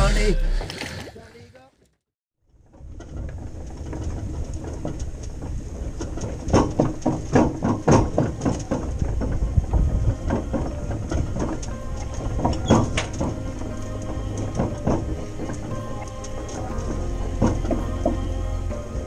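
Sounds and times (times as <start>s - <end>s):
road rumble: 2.4s - 19.0s
boat rattling and clunking on trailer: 2.5s - 19.0s.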